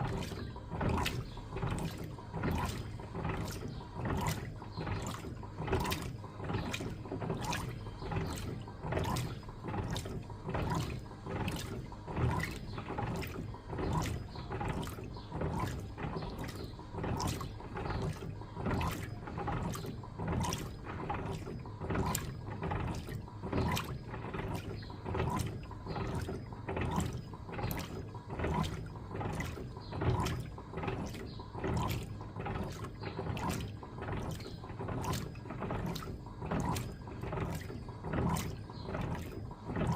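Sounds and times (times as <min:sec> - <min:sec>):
washing machine sloshing water: 0:00.0 - 0:39.9.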